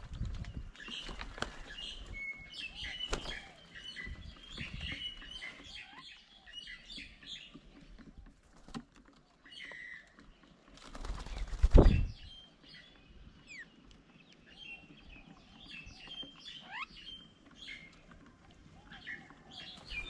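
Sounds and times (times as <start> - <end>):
birds chirping and whistling: 0.2 - 8.0, 9.4 - 10.4, 11.2 - 20.0.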